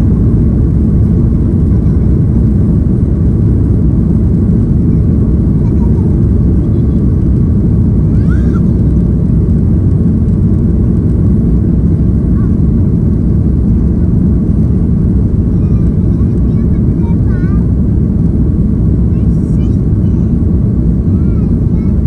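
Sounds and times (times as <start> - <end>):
jet engine cabin rumble: 0.0 - 22.0.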